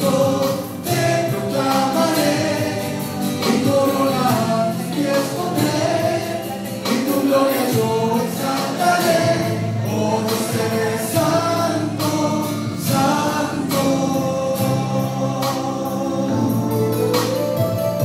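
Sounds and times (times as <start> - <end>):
man singing into a microphone: 0.0 - 17.1
instrumental accompaniment: 0.0 - 18.0.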